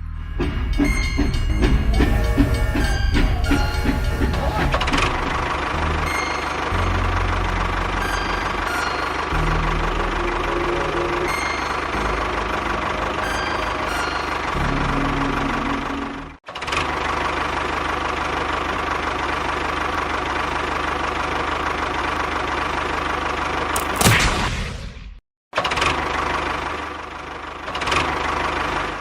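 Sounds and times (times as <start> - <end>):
small engine running: 1.3 - 24.1, 25.6 - 29.0.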